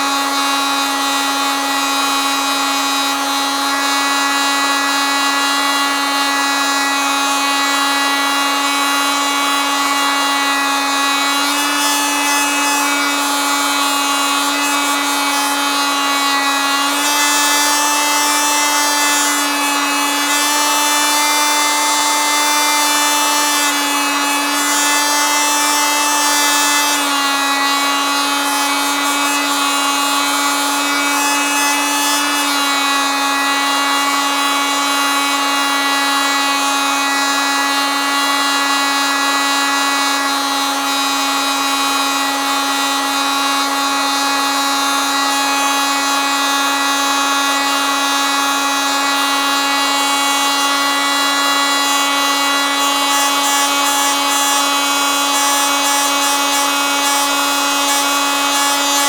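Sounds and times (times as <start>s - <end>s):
oscillating multitool buzzing: 0.0s - 59.0s.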